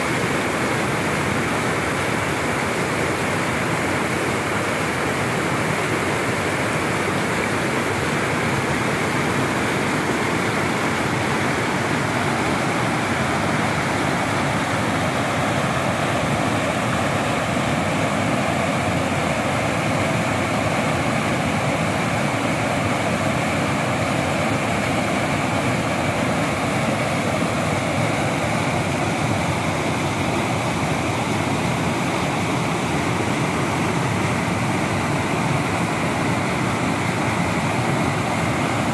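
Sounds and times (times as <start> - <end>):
river rapids rushing over rocks: 0.0 - 38.9.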